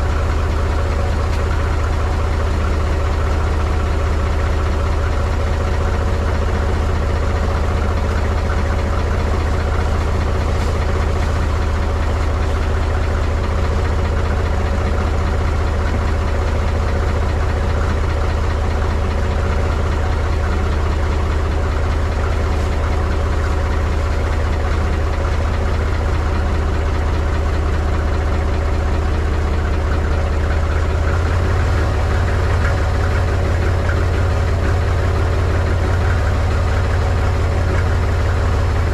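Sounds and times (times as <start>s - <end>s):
diesel tractor engine idling roughly: 0.0s - 38.9s.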